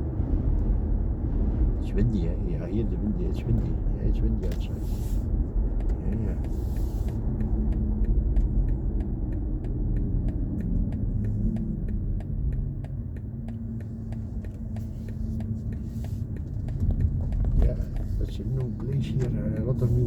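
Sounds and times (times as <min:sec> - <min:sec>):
wind and road noise rumble: 0:00.0 - 0:20.0
faint regular ticking: 0:02.6 - 0:20.0.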